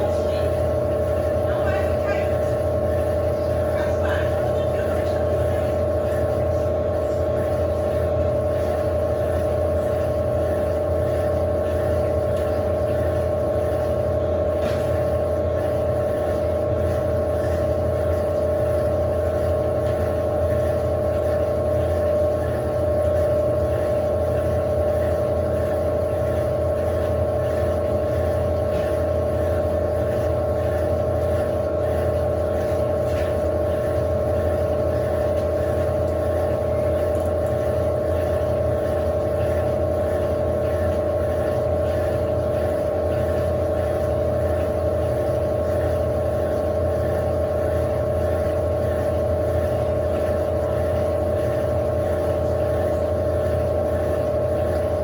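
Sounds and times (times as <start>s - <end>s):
washing machine motor whine: 0.0s - 55.0s.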